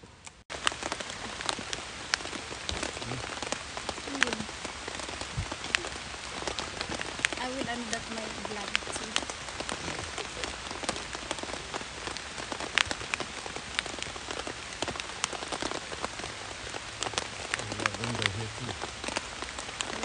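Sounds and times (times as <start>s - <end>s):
rain pattering on tent fabric: 0.0s - 20.0s.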